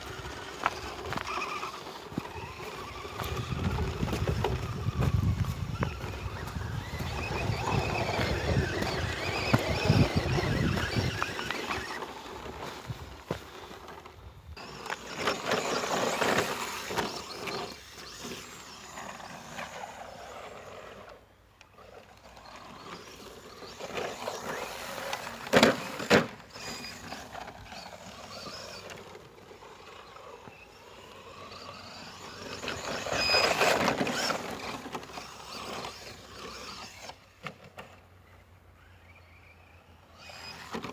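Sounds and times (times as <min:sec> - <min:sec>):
rc truck driving over rough ground: 0:00.0 - 0:40.9.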